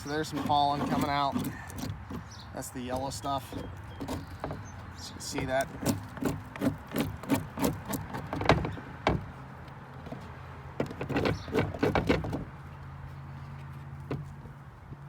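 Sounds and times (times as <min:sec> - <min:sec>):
tool scraping wooden frame: 0:00.0 - 0:12.6.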